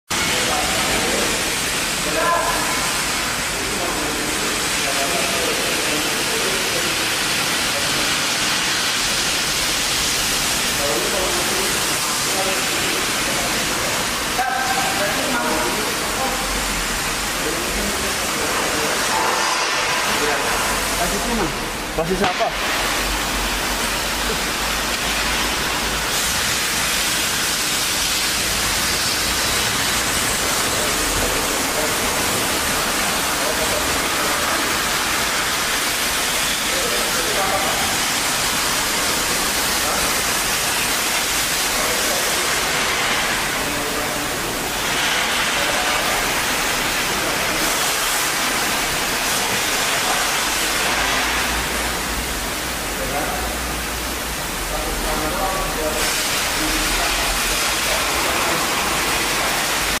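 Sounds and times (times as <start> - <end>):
loud steady workshop hiss: 0.1 - 60.0.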